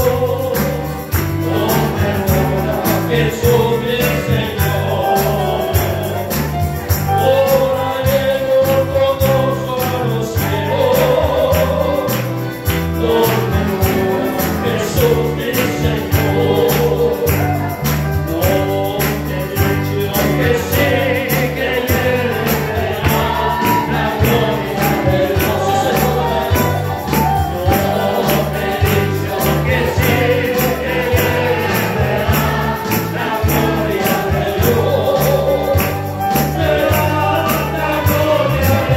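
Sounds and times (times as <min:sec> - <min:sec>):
bass guitar: 0:00.0 - 0:38.9
group singing praise song: 0:00.0 - 0:38.9
steady percussion beat: 0:00.0 - 0:38.9.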